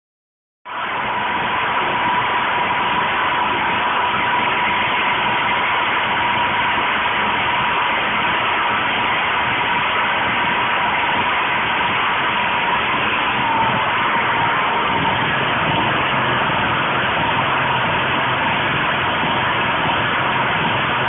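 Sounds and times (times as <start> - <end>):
generator engine running: 0.7 - 21.0
steady high tone: 0.7 - 21.0.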